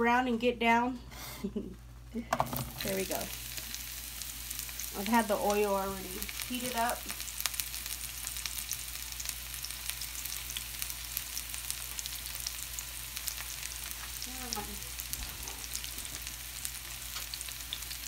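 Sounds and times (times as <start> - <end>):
mushrooms sizzling in a pan: 2.3 - 18.0
oil crackling and popping: 2.3 - 18.0.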